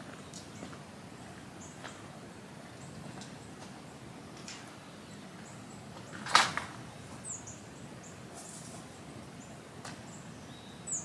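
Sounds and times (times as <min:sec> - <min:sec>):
small birds chipping: 0:00.0 - 0:11.0.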